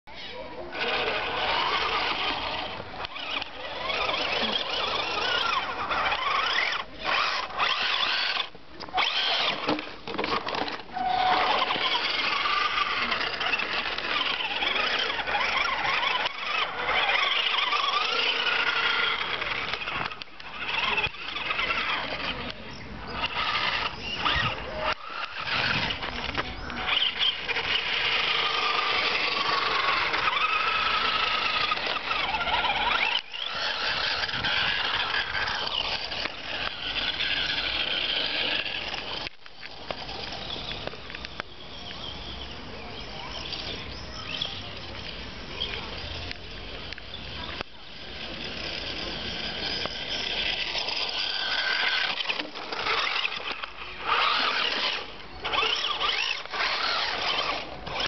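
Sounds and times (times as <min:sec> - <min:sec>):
toy truck electric motor whining: 0:00.1 - 0:41.5, 0:43.2 - 0:58.0.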